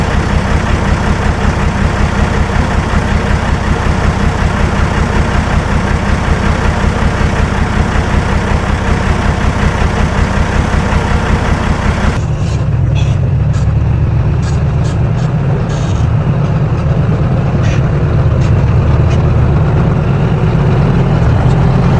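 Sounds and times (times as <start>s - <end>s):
heavy diesel engine throbbing: 0.0s - 21.9s.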